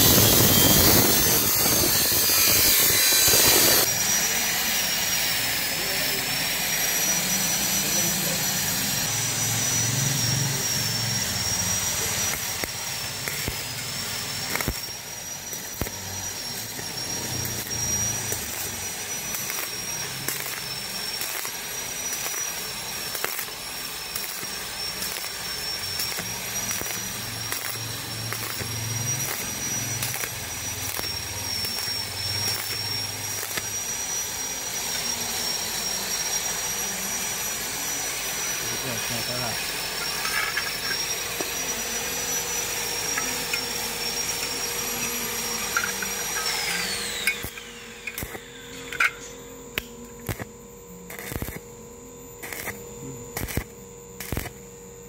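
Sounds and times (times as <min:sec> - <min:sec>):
welding arc crackling hiss: 0:00.0 - 0:51.7, 0:52.4 - 0:54.6.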